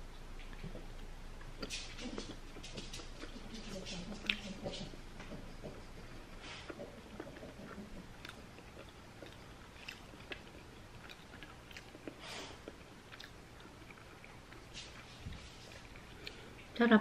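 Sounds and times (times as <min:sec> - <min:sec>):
close-up chewing: 0:00.1 - 0:16.8.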